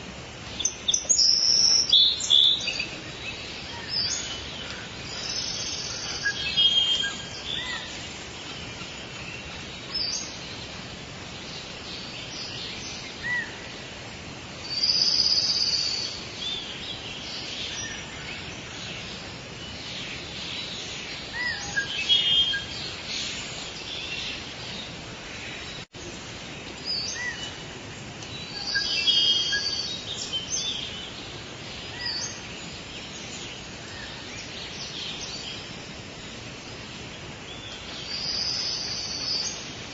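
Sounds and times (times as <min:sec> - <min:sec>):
forest birds chirping: 0:00.0 - 0:39.9
steady ambient hiss: 0:00.0 - 0:39.9.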